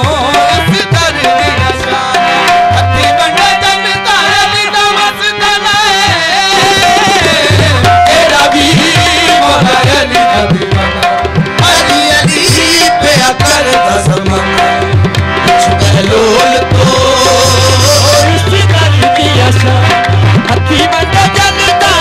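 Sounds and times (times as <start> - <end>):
harmonium: 0.0 - 22.0
tabla drumming: 0.0 - 22.0.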